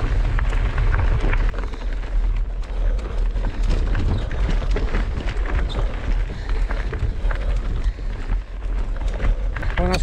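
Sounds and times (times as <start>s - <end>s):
bike rattling over stones: 0.0s - 10.0s
wind and ground rumble: 0.0s - 10.0s.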